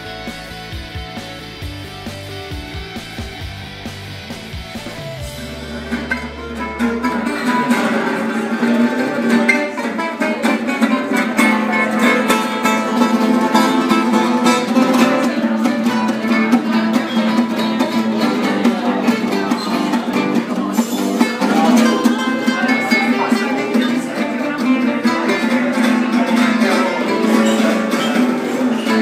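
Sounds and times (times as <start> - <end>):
acoustic guitar strumming: 0.0 - 29.0
picked guitar melody: 0.0 - 29.0.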